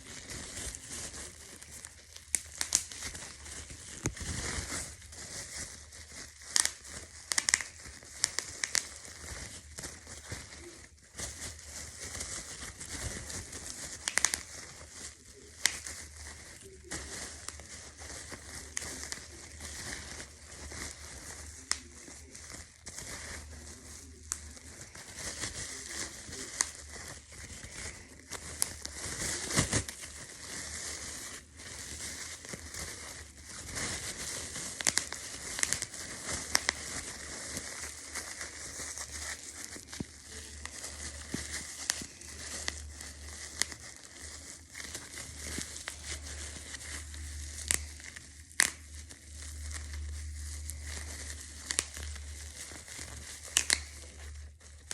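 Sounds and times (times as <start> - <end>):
faint low hum: 0.0 - 54.9
material crinkling and crackling: 0.0 - 54.9.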